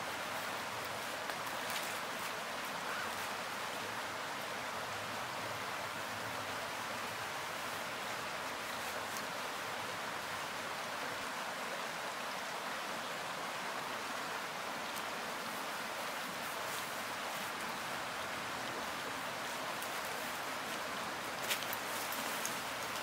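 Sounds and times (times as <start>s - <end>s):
rushing water hiss: 0.0s - 23.0s.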